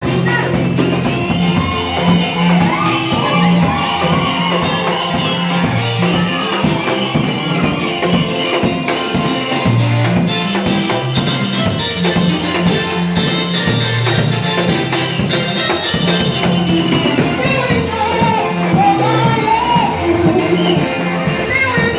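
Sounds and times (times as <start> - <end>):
bass guitar: 0.0 - 21.9
drum kit steady beat: 0.0 - 21.9
guitar: 0.0 - 21.9.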